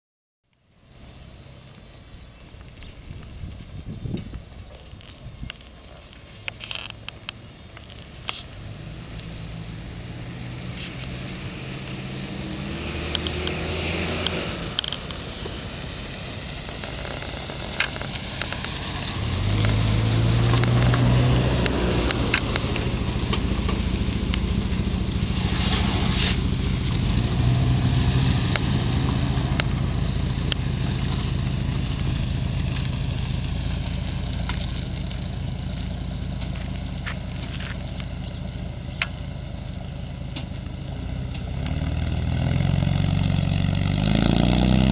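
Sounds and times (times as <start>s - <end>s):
car engine running low speed: 0.5s - 44.9s.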